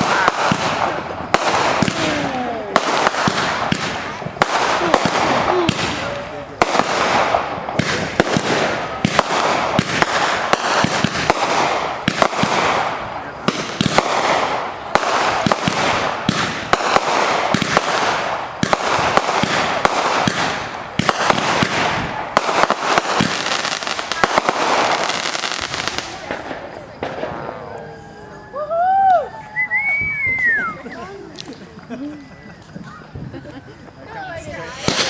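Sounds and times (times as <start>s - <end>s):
fireworks crackle: 0.0s - 28.0s, 30.0s - 35.0s
fireworks bangs: 0.0s - 28.1s, 32.2s - 35.0s.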